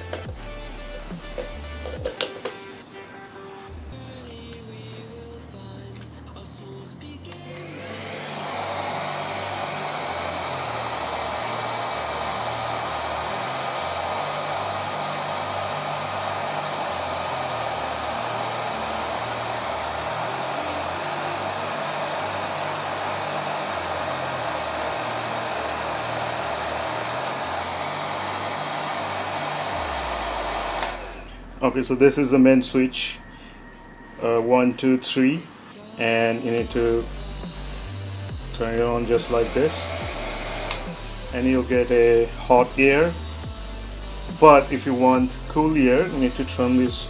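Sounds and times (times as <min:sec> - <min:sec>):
hair dryer blowing: 0:00.0 - 0:03.2, 0:07.3 - 0:31.8, 0:36.6 - 0:47.0.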